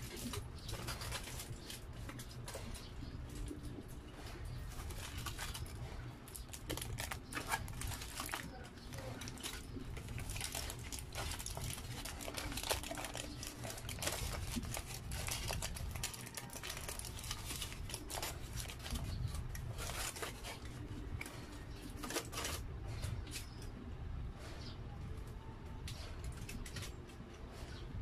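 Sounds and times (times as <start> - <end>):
aluminium foil crinkling: 0.0 - 23.7, 26.2 - 27.2.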